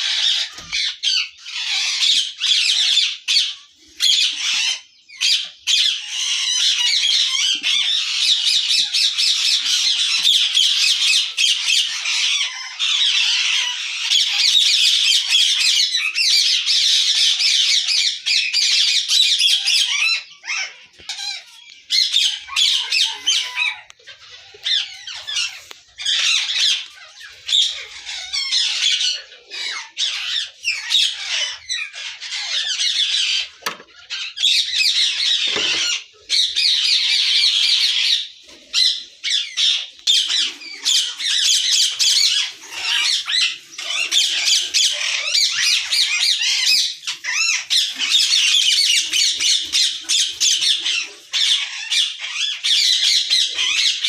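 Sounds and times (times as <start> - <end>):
parakeets screeching and squawking: 0.0 - 54.0.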